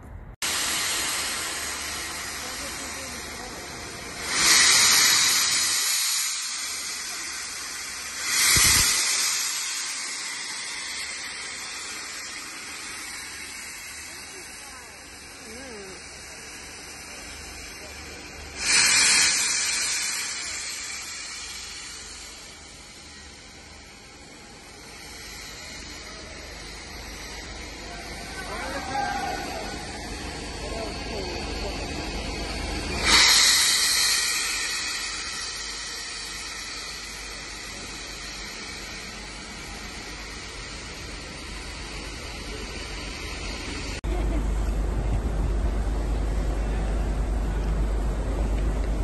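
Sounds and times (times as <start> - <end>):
steam locomotive hissing steam: 0.4 - 49.0.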